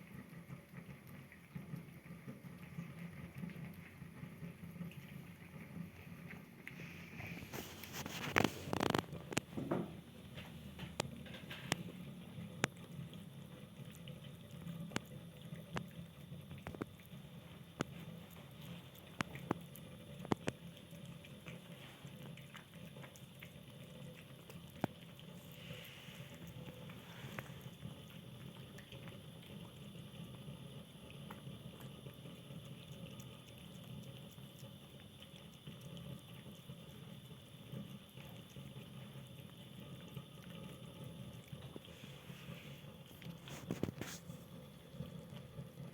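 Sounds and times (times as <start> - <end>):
kittens chewing: 0.0 - 45.9.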